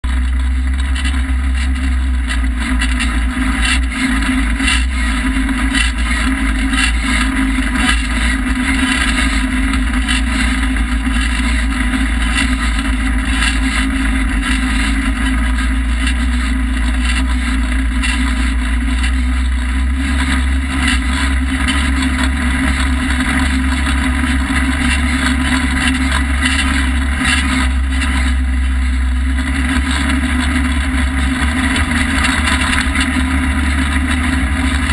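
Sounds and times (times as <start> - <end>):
knocks and rattles over bumps: 0.0 - 34.9
off-road vehicle engine running: 0.0 - 34.9.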